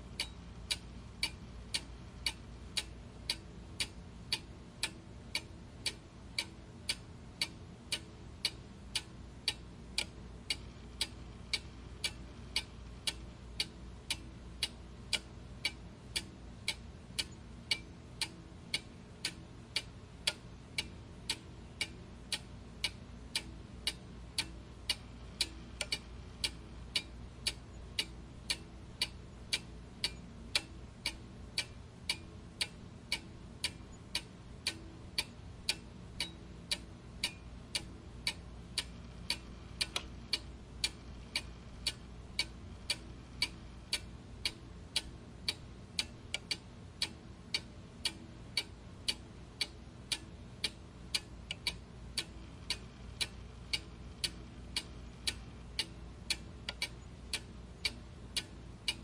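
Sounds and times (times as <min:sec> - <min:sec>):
faint low hum: 0:00.0 - 0:59.0
clock ticking: 0:00.1 - 0:59.0.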